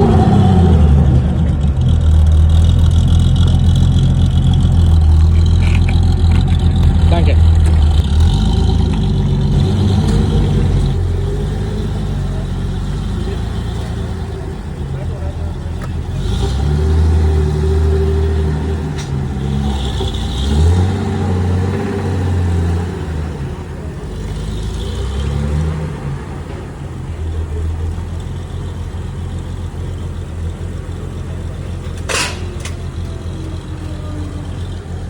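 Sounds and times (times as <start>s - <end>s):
car engines rumbling: 0.0s - 35.0s.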